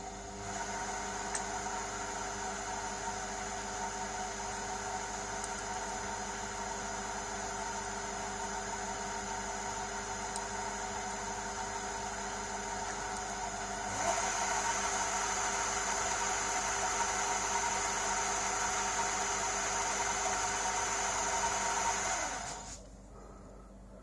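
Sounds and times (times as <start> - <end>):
lathe motor humming: 0.4 - 22.7.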